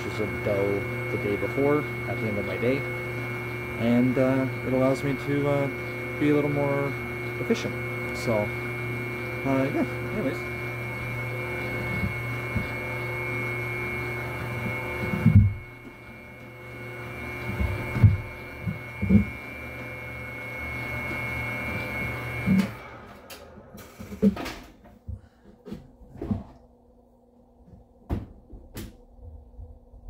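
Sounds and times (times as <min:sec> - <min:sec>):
electric dough mixer humming: 0:00.0 - 0:26.8.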